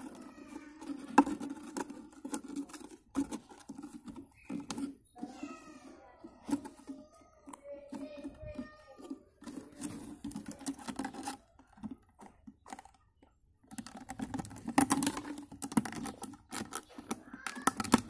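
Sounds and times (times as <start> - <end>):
plastic bottle crackling: 0.0 - 5.6, 6.2 - 18.0.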